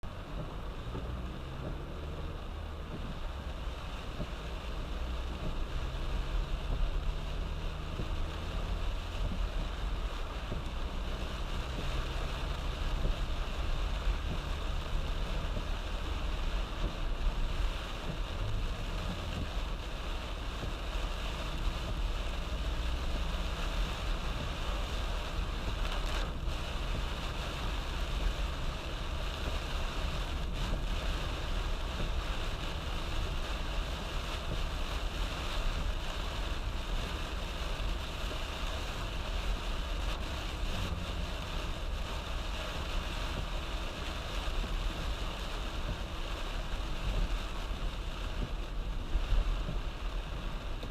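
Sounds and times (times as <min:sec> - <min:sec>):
car engine rumbling: 0:00.0 - 0:50.9
heavy rain on a car: 0:00.0 - 0:50.9
tyres hissing on wet road: 0:00.0 - 0:50.9.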